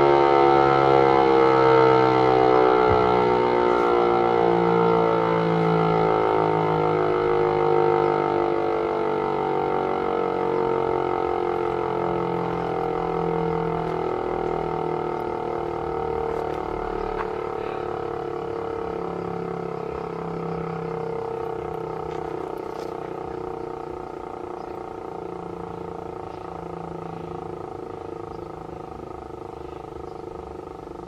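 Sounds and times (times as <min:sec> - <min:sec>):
motor-driven siren winding down: 0:00.0 - 0:31.0.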